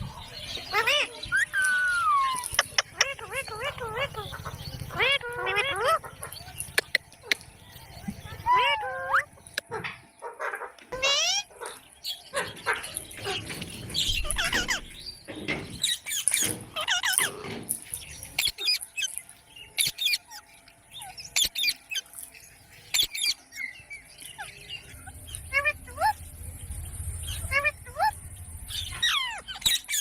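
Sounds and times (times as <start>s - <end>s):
parrots squawking and calling: 0.0s - 30.0s.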